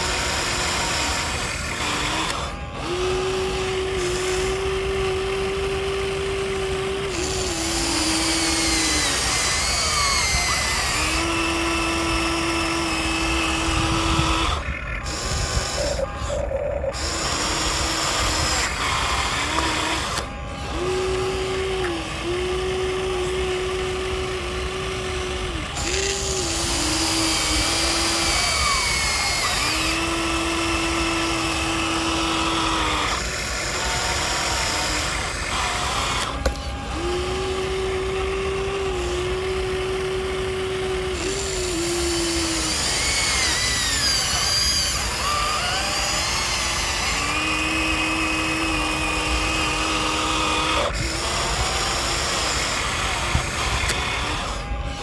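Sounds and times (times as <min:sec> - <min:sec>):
toy excavator motors whining: 0:00.0 - 0:55.0.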